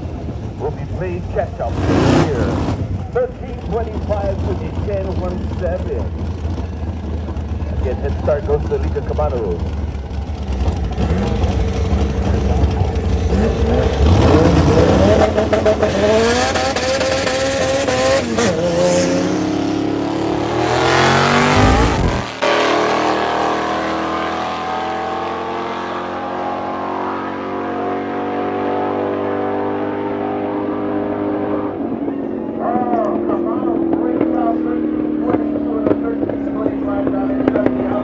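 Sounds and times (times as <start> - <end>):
drag race cars at full throttle: 0.0 - 38.0.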